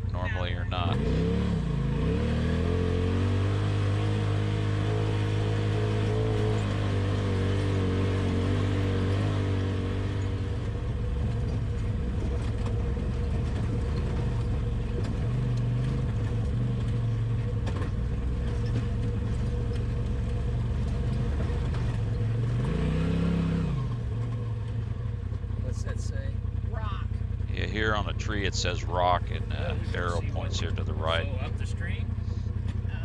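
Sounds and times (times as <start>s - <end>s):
off-road vehicle engine running: 0.0s - 33.0s.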